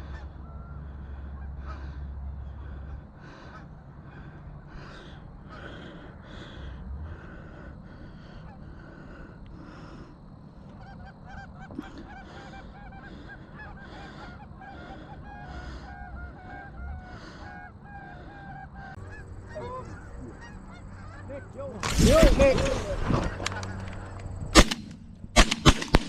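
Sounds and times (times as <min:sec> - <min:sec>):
low steady rumble: 0:00.0 - 0:12.2, 0:13.0 - 0:25.4
geese honking: 0:00.0 - 0:24.3.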